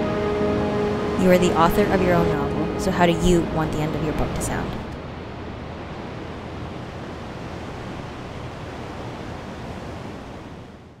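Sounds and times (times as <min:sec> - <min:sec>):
ocean surf: 0:00.0 - 0:11.0
wind: 0:00.0 - 0:11.0.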